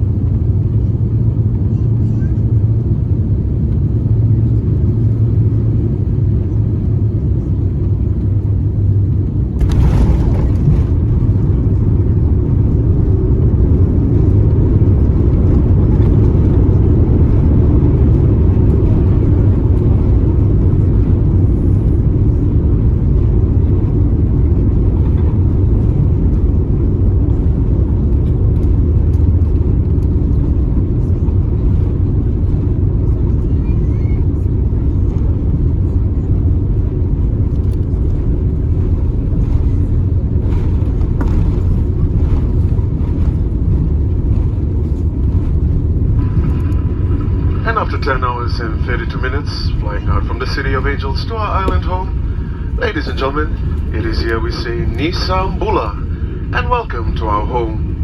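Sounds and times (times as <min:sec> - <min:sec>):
low rumble inside airliner cabin: 0:00.0 - 0:58.0.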